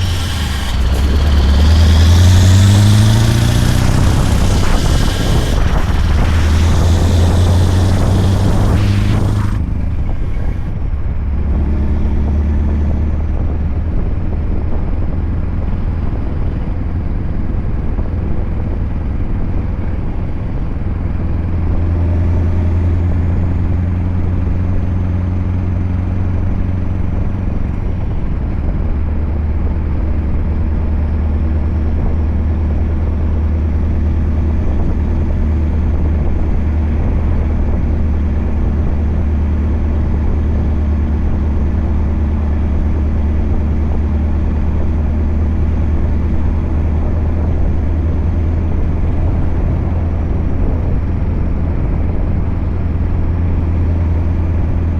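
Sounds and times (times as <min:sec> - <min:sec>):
truck diesel engine drone: 0:00.0 - 0:54.9.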